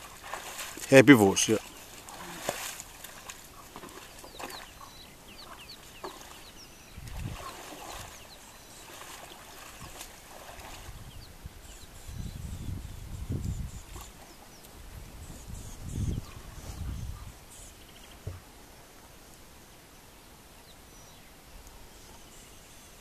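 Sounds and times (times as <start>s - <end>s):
birds chirping: 0.0s - 19.0s, 20.2s - 23.0s.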